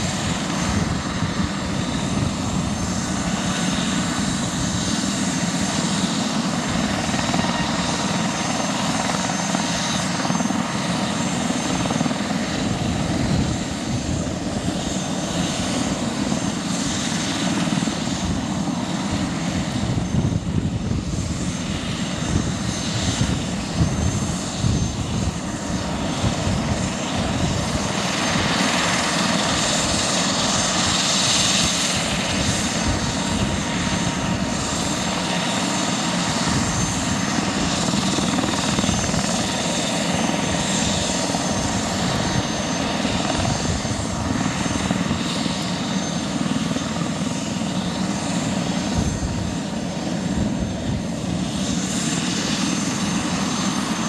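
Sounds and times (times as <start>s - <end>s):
helicopter turbine engines whining: 0.0s - 54.0s.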